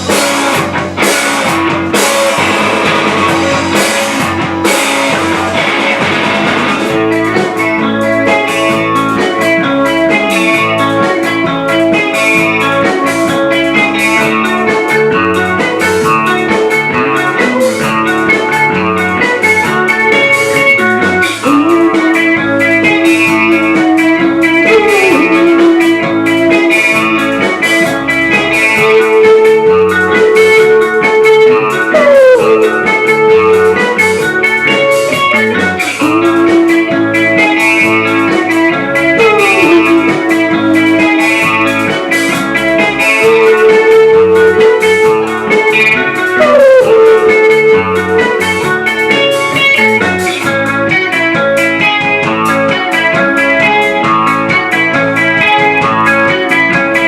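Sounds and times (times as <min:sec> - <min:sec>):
drums: 0:00.0 - 0:57.0
guitar sliding pitch swoops: 0:00.0 - 0:57.0
rock band playing live: 0:00.0 - 0:57.0.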